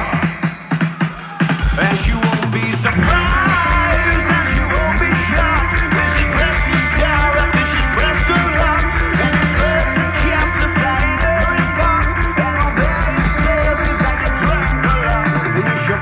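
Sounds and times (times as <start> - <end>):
bass guitar: 0.0 - 0.5, 1.6 - 16.0
drums: 0.0 - 16.0
electric guitars: 1.8 - 16.0.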